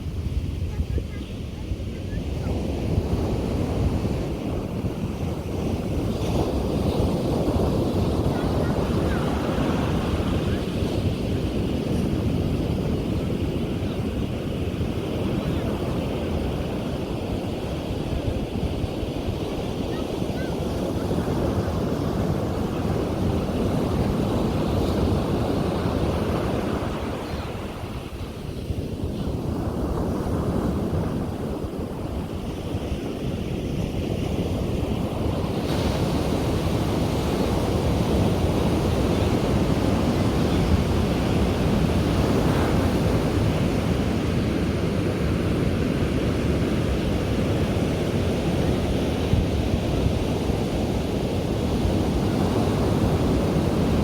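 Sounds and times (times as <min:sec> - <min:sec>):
sea waves breaking on beach: 0:00.0 - 0:54.0
wind buffeting microphone: 0:00.0 - 0:54.0.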